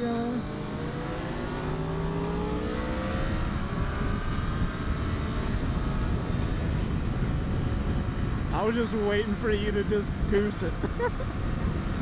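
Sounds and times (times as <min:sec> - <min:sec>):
motorcycle engine accelerating: 0:00.0 - 0:12.0
wind rushing over microphone: 0:00.2 - 0:12.0.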